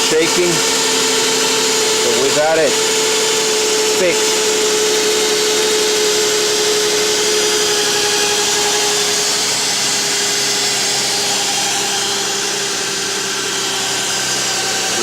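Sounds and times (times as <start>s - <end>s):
constant whine: 0.0s - 15.0s.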